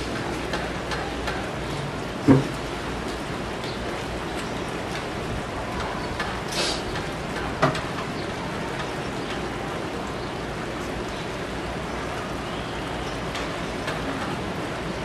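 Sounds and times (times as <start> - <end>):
outdoor ambient noise: 0.0 - 15.0.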